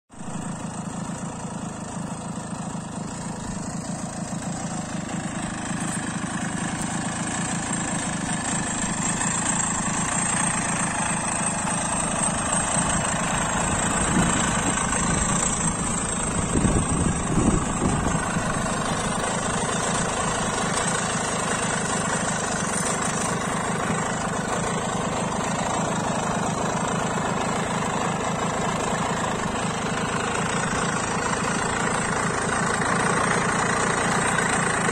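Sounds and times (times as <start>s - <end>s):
tiller engine idling: 0.1s - 34.9s.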